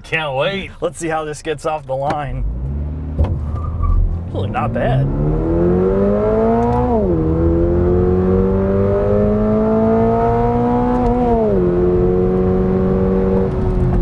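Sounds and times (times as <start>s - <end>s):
car engine accelerating: 2.3s - 14.0s.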